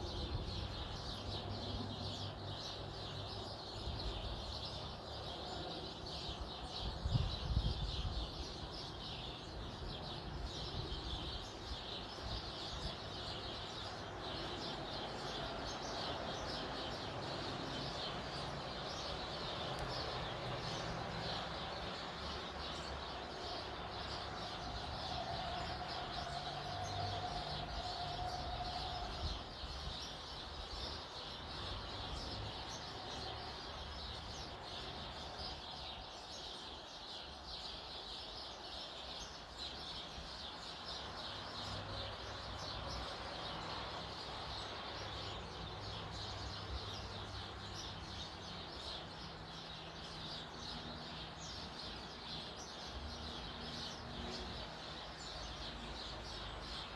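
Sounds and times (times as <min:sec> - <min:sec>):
small songbirds chirping: 0:00.0 - 0:56.9.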